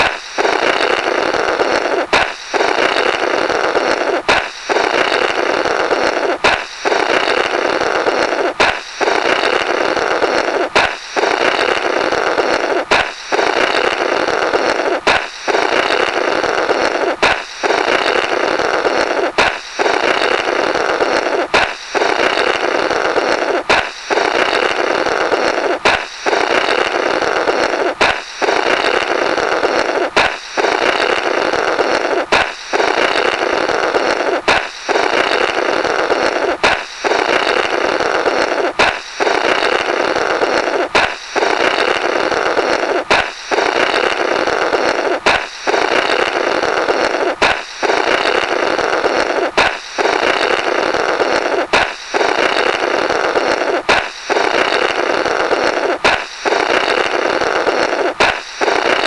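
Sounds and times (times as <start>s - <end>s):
balloon popping: 0.0s - 59.0s
buzzing raspberry through balloon: 0.0s - 59.0s.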